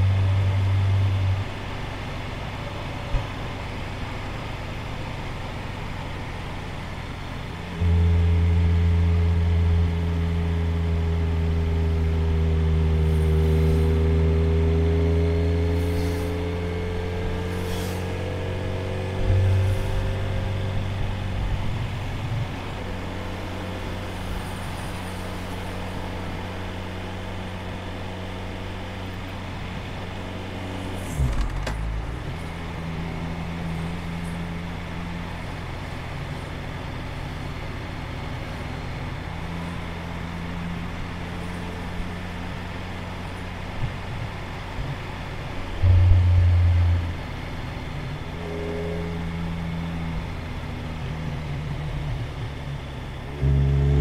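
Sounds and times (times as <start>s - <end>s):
road and wind noise: 0.0s - 54.0s
motorcycle engine running: 7.6s - 54.0s.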